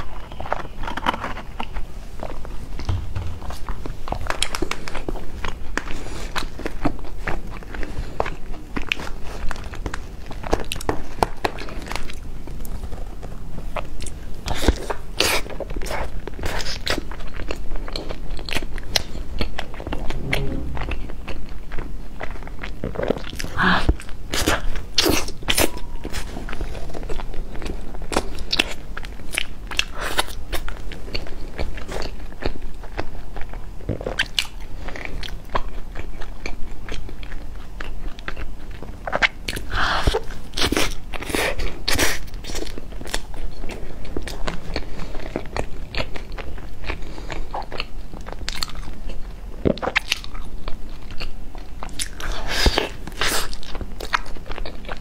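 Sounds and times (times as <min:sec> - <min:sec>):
crunchy pastry chewing: 0:00.0 - 0:02.8, 0:03.7 - 0:20.4, 0:22.0 - 0:55.0.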